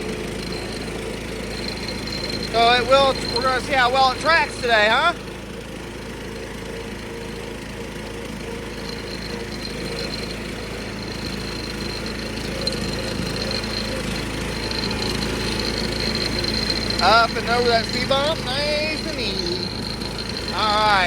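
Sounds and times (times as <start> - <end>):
thin high whine: 0.0 - 5.2, 8.4 - 21.0
riding mower engine running: 0.0 - 21.0.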